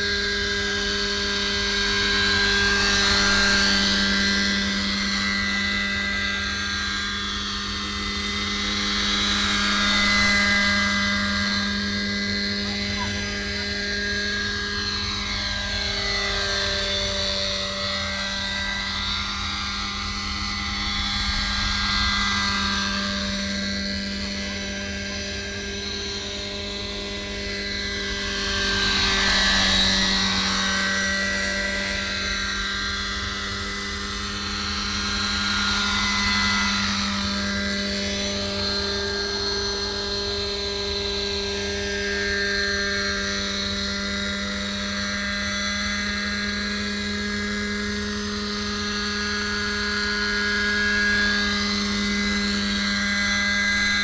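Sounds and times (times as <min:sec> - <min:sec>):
model helicopter flying: 0:00.0 - 0:54.0.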